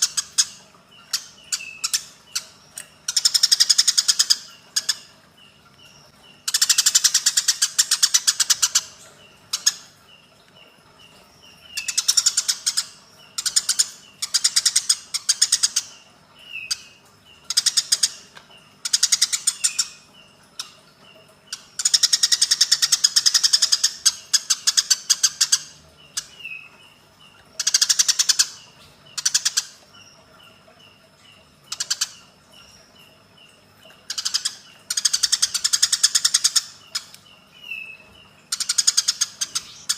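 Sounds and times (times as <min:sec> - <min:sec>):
soft repeated chirps: 0:00.0 - 0:39.9
sparrows chirping harshly: 0:00.0 - 0:39.9.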